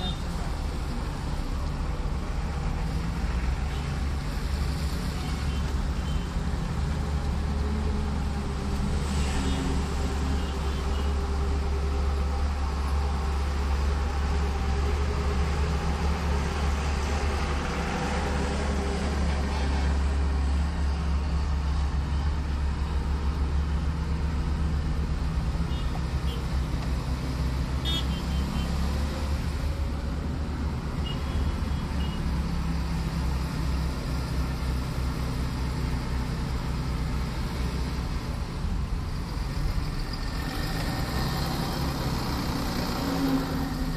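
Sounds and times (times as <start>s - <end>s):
trucks and buses passing: 0.0s - 43.9s
tyres on wet road: 0.0s - 43.9s.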